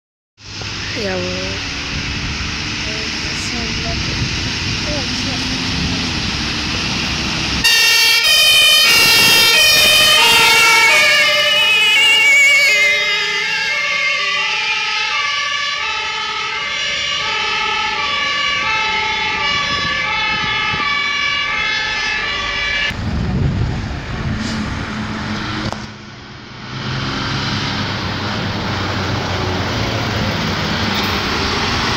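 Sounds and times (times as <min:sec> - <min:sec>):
truck engine: 0:00.4 - 0:31.9
two-tone fire engine sirens: 0:00.5 - 0:31.9.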